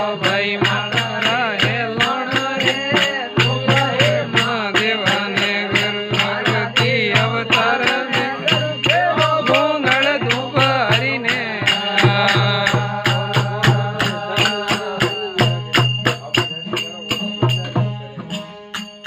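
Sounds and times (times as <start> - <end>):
person singing: 0.0 - 16.6.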